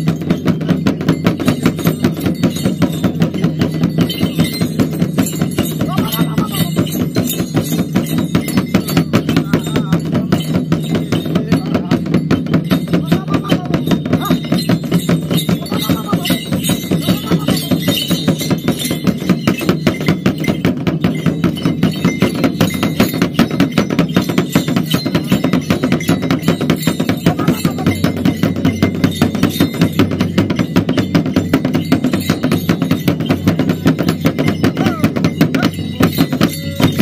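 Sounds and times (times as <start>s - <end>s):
fast percussion beat: 0.0s - 37.0s.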